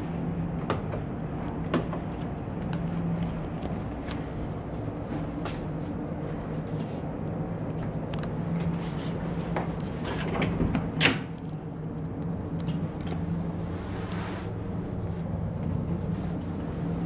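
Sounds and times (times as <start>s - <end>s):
low ship hum: 0.0s - 17.0s.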